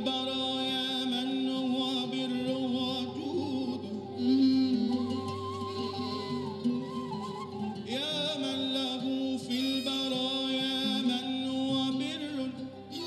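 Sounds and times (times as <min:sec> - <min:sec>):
violin melody with vibrato: 0:00.0 - 0:13.0
traditional ensemble held notes: 0:02.0 - 0:13.0.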